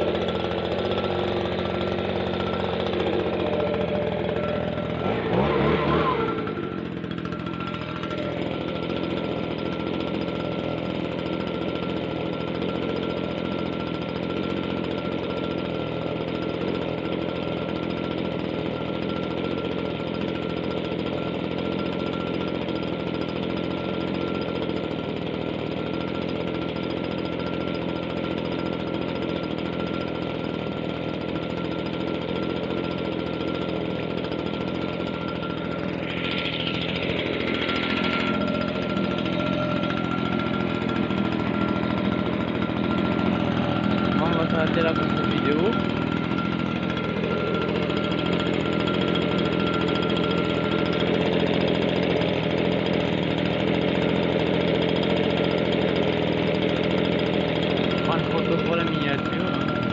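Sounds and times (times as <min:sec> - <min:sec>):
leaf blower engine idling: 0:00.0 - 0:59.9.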